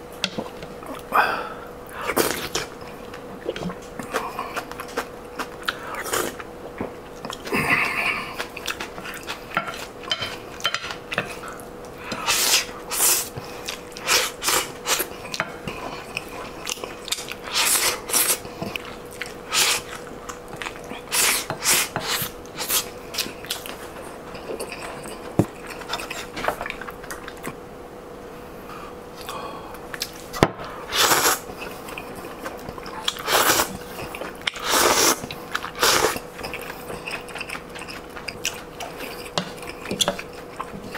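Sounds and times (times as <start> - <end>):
faint steady hum: 0.0 - 40.9
chewing and slurping: 2.0 - 27.6, 30.9 - 40.9.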